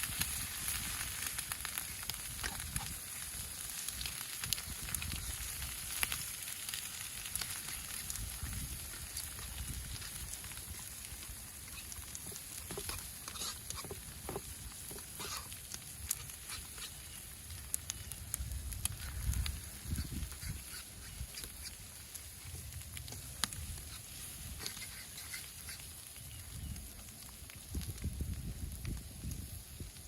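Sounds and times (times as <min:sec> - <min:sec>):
food sizzling in a pan: 0:00.0 - 0:26.7.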